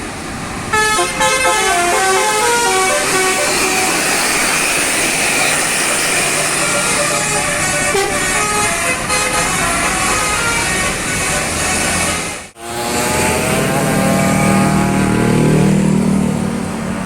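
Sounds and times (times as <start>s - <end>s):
loud vehicle noise: 0.0s - 17.0s
bus musical horn: 0.7s - 16.0s.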